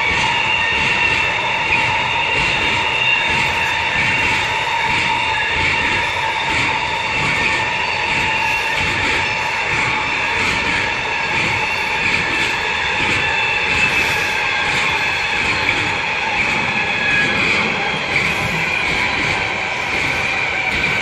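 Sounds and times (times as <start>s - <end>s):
high-pitched ringing tones: 0.0s - 21.0s
train wheels rumbling on rail: 0.0s - 21.0s.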